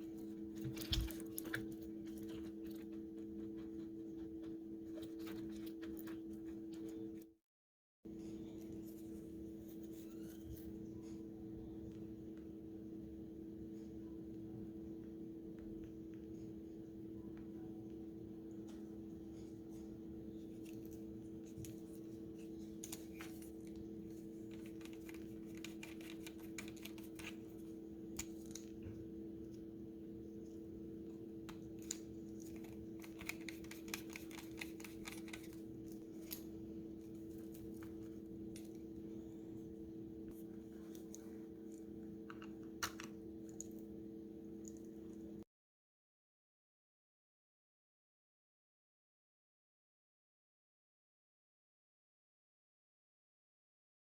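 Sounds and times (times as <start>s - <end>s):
steady low hum: 0.0s - 7.3s, 8.1s - 45.4s.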